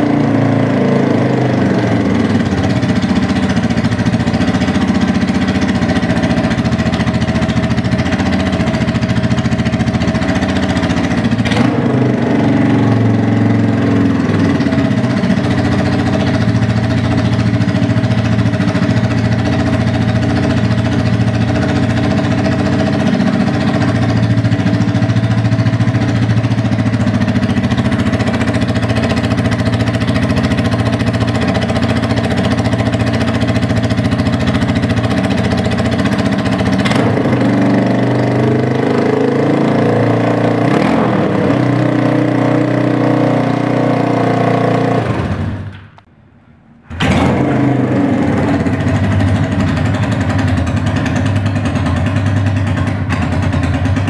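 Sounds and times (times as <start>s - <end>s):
motorcycle engine running: 0.0s - 46.1s, 46.9s - 54.0s.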